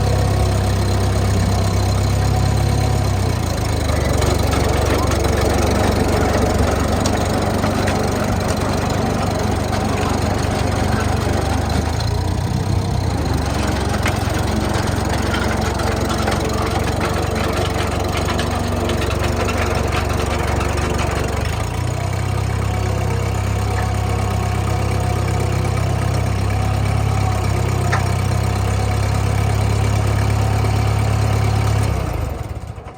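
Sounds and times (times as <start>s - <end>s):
bulldozer engine running: 0.0s - 32.9s.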